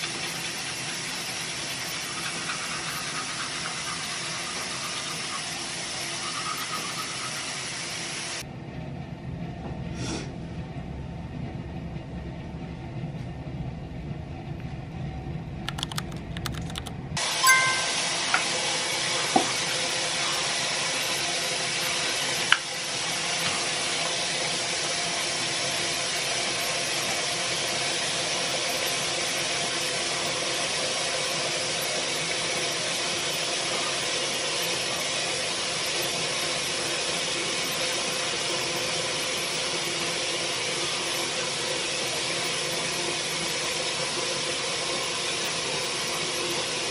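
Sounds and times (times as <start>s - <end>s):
tap water running: 0.0s - 8.4s, 17.2s - 46.9s.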